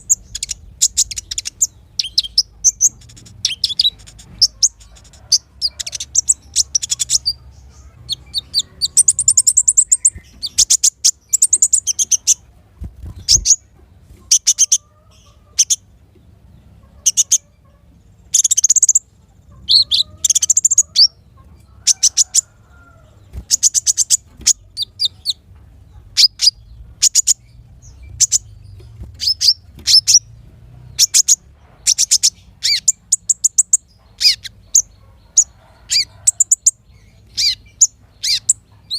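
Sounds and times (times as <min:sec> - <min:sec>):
small songbirds chirping and trilling: 0:00.0 - 0:38.9.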